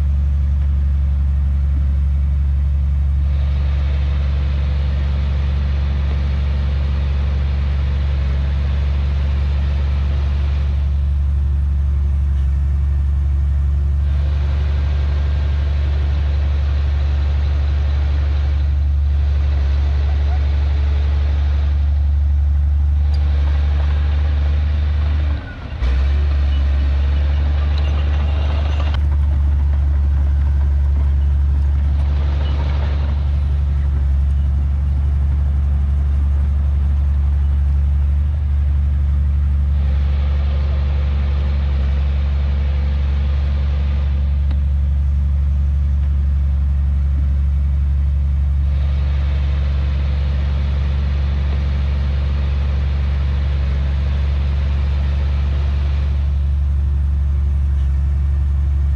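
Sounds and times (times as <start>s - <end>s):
diesel earthmoving machinery engine: 0.0s - 58.9s.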